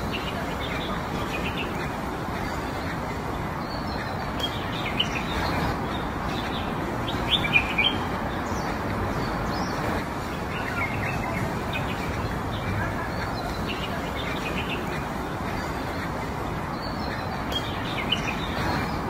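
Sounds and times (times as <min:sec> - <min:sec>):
small birds chirping: 0:00.0 - 0:19.0
steady background noise: 0:00.0 - 0:19.0.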